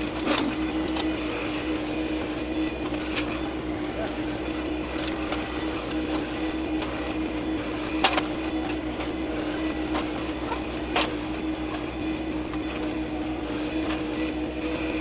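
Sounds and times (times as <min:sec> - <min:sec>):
hydraulic whine: 0:00.0 - 0:15.0
tractor diesel engine running: 0:00.0 - 0:15.0.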